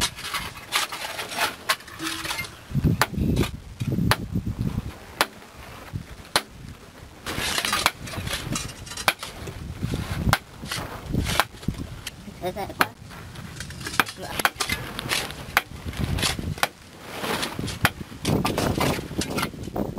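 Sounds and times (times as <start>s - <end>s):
scraping of tools on earth: 0.0s - 4.0s, 4.6s - 12.2s, 13.0s - 19.9s
digging bars striking rock: 0.0s - 4.3s, 5.1s - 5.4s, 6.3s - 6.6s, 7.2s - 19.8s.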